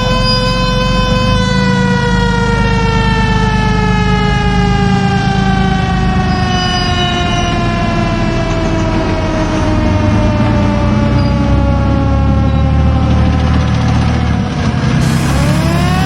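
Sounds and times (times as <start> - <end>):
loud low rumble: 0.0 - 16.0
warning siren winding down: 0.0 - 16.0.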